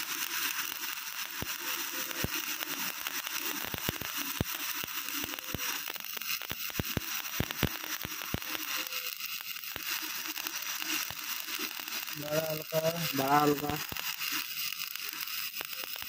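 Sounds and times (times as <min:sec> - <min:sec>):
welding arc crackling hiss: 0:00.0 - 0:16.0
welding arc sharp pops: 0:00.0 - 0:16.0.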